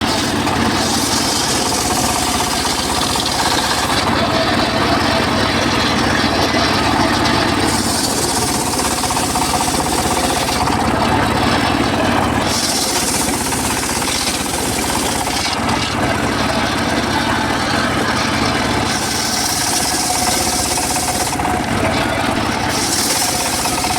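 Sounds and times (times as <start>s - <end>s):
circular saw cutting wood: 0.0s - 23.9s
fast-knocking engine-like beat: 0.0s - 23.9s.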